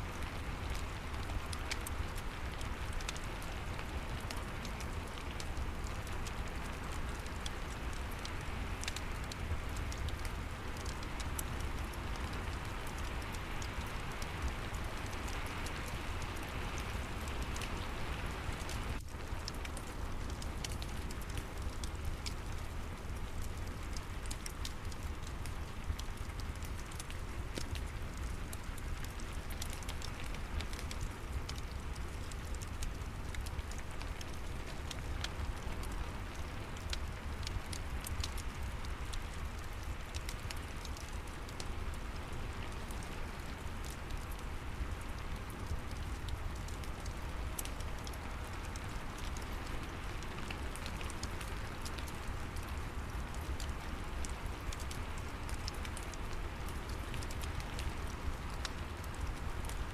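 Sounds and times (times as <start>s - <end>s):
steady rain falling: 0.0s - 59.9s
fireplace crackling and popping: 0.1s - 59.9s.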